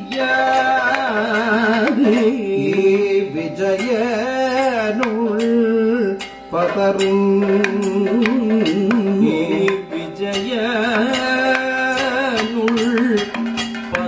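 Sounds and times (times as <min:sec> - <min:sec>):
person singing long wavering notes: 0:00.0 - 0:14.0
sharp percussion strokes: 0:00.0 - 0:14.0.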